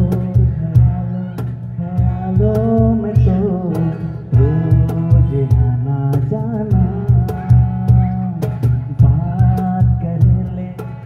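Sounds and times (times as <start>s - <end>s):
acoustic guitar: 0.0s - 11.0s
low steady beat: 0.0s - 11.0s
man singing: 0.0s - 11.0s.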